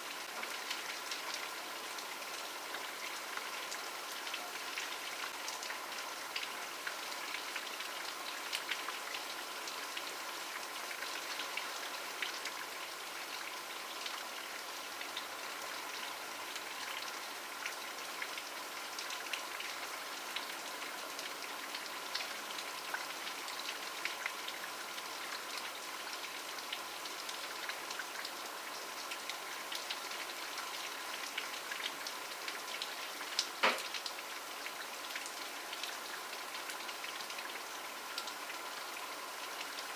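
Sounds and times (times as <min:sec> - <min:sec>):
steady rain: 0:00.0 - 0:39.9
raindrops ticking on surface: 0:00.1 - 0:39.9.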